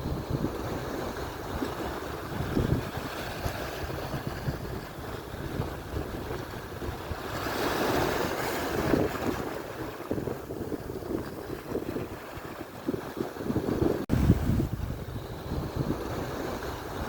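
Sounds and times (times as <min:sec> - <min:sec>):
surf breaking on shore: 0:00.0 - 0:17.0
wind buffeting microphone: 0:00.0 - 0:17.0.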